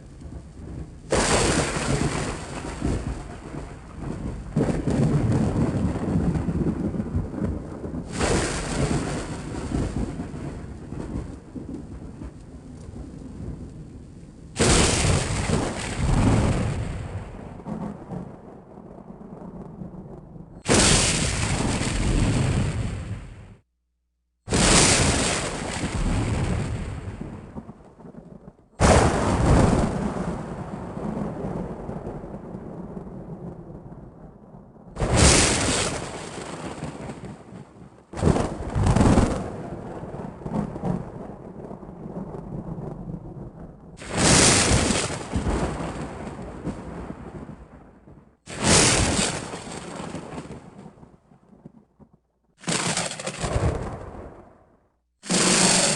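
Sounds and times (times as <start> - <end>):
thunder rumbling and cracking: 0.0 - 23.6, 24.5 - 55.9.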